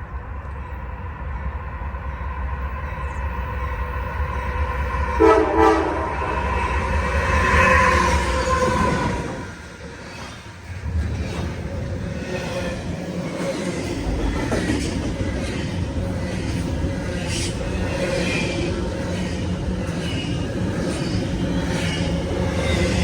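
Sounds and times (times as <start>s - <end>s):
diesel locomotive engines droning: 0.0s - 23.0s
train wheel and rail noise: 0.0s - 23.0s.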